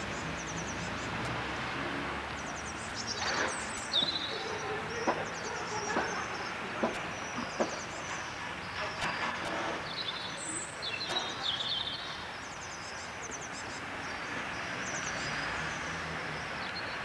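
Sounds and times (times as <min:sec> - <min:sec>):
outdoor background noise: 0:00.0 - 0:17.0
small birds chirping: 0:00.0 - 0:17.0.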